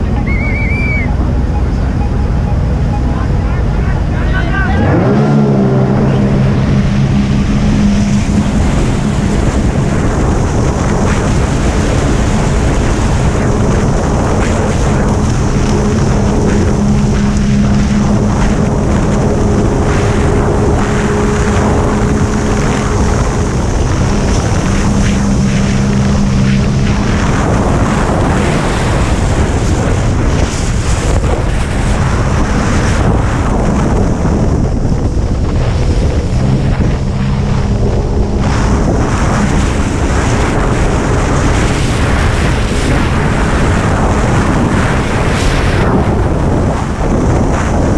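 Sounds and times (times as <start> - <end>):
jet ski engine running: 0.0 - 47.9
water noise: 0.0 - 47.9
wind buffeting: 0.0 - 47.9.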